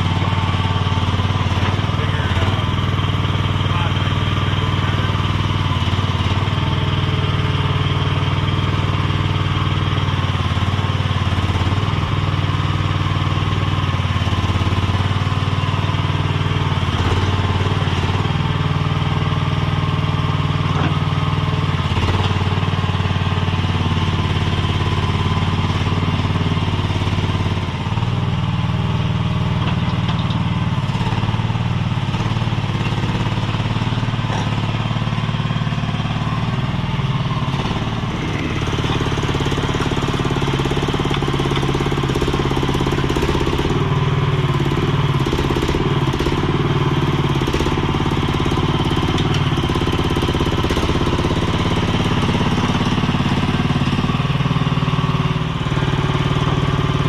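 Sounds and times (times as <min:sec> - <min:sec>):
skid steer engine running: 0:00.0 - 0:57.0.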